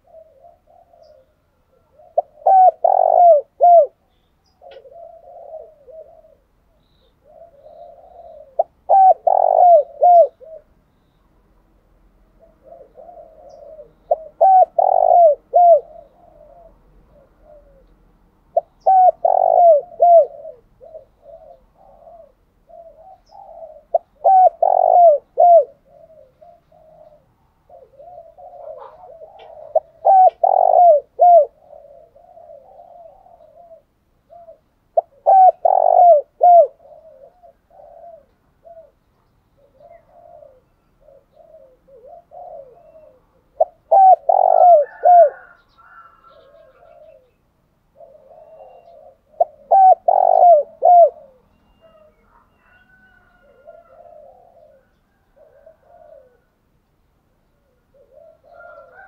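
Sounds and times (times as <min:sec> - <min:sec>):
dove cooing: 0:00.0 - 0:10.9, 0:12.2 - 0:56.7, 0:57.4 - 0:59.0.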